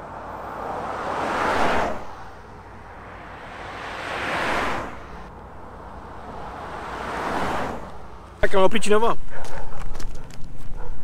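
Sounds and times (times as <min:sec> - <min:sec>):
vehicles driving past: 0:00.0 - 0:10.5.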